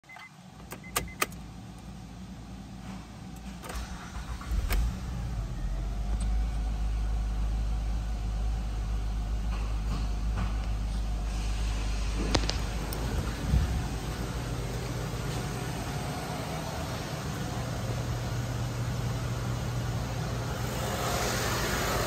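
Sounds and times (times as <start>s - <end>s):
car engine cranking and idling: 0.0s - 22.0s.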